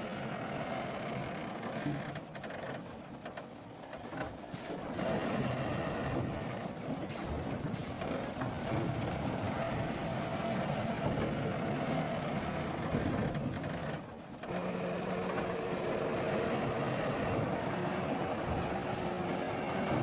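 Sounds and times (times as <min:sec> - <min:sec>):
heavy machine engine running: 0:00.0 - 0:20.0.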